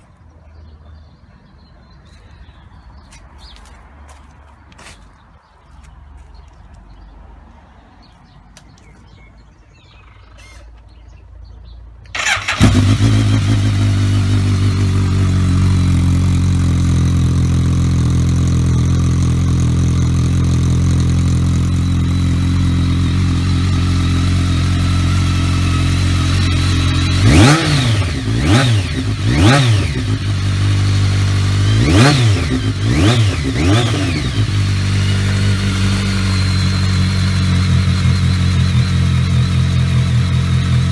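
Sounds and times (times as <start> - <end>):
motorcycle engine idling and revving: 8.1 - 40.9.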